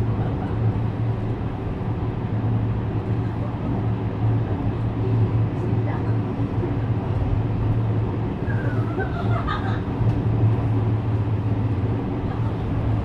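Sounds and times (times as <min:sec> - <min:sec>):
electric train running rumble: 0:00.0 - 0:13.0.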